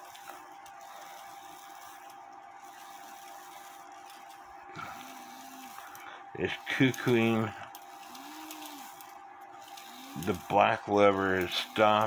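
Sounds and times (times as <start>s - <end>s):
clock movement whirring: 0.0s - 12.0s.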